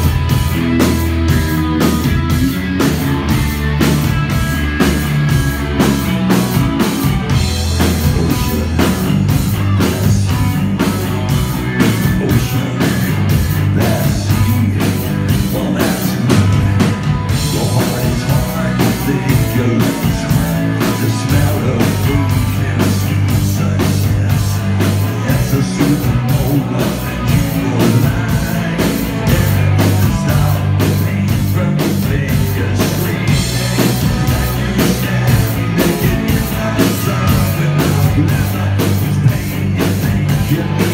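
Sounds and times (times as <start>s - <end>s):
drum beat: 0.0s - 40.9s
live rock band playing: 0.0s - 40.9s.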